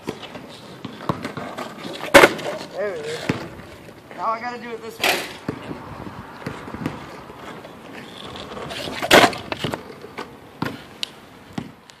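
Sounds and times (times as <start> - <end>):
longboard wheels rumbling on pavement: 0.0 - 11.5.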